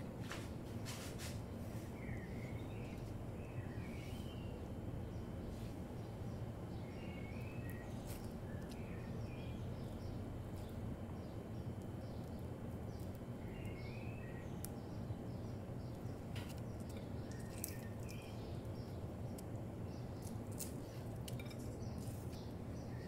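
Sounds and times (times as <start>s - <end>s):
steady low hum: 0.0s - 23.0s
small birds chirping: 1.6s - 23.0s.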